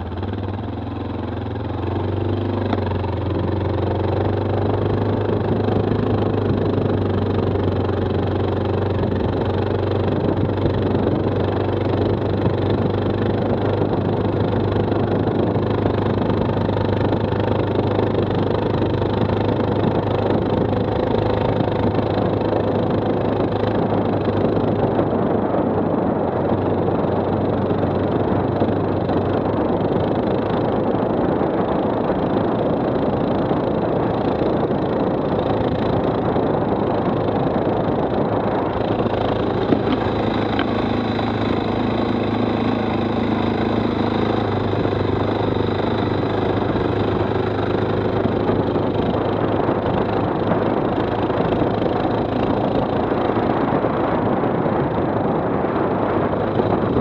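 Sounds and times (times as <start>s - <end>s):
atv engine running steadily: 0.0s - 57.0s.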